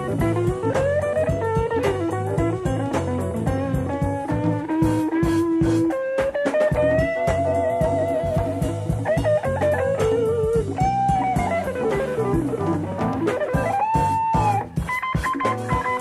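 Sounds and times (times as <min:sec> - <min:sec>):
bass: 0:00.0 - 0:16.0
drum kit: 0:00.0 - 0:16.0
electric guitar lead: 0:00.0 - 0:16.0.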